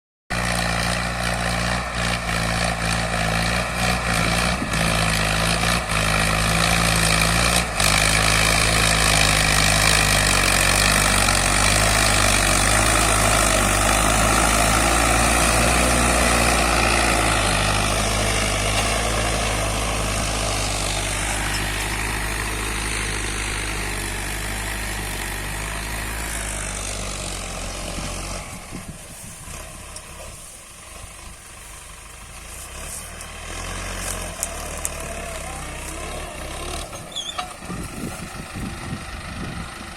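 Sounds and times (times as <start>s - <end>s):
tractor diesel engine under load: 0.3s - 39.9s.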